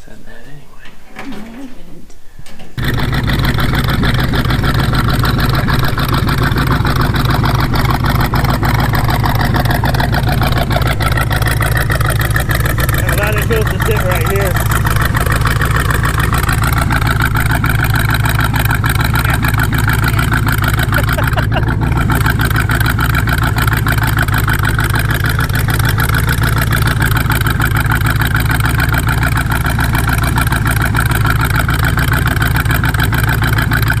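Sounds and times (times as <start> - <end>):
motor running loudly: 2.8 - 34.0.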